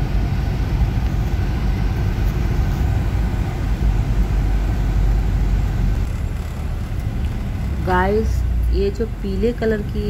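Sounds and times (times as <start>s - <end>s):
car cabin road noise: 0.0s - 10.0s.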